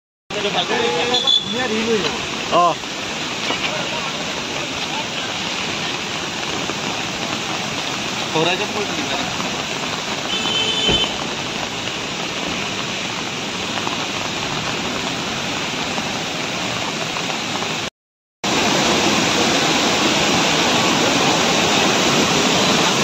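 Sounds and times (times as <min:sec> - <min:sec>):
rushing water: 0:00.3 - 0:23.0.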